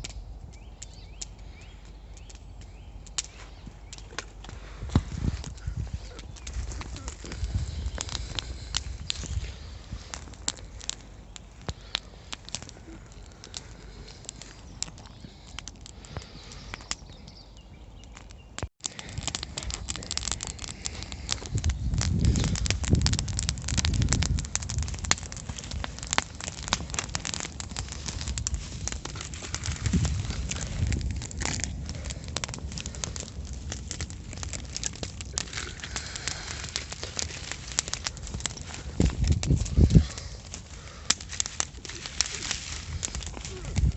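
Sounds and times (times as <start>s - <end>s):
campfire crackling and popping: 0.0s - 43.9s
low rumbling: 0.0s - 43.9s.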